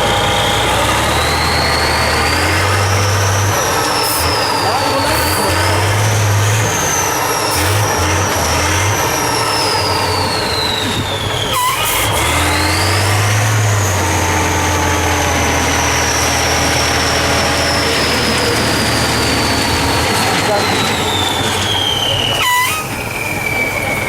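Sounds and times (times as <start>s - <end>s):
diesel engine revving with whine: 0.0s - 24.0s.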